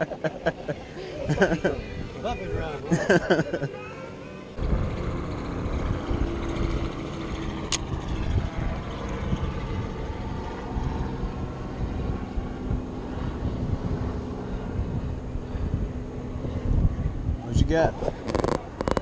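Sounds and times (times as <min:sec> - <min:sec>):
wind buffeting microphone: 0:00.9 - 0:03.0, 0:04.6 - 0:19.0.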